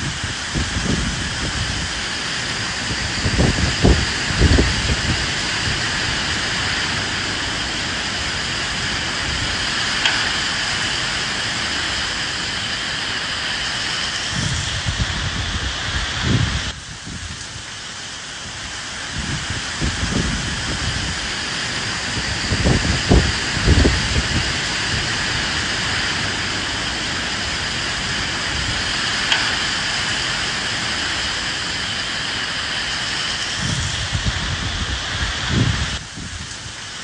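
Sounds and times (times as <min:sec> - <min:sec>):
steady rain hiss: 0:00.0 - 0:37.0
wind gusts: 0:00.0 - 0:37.0.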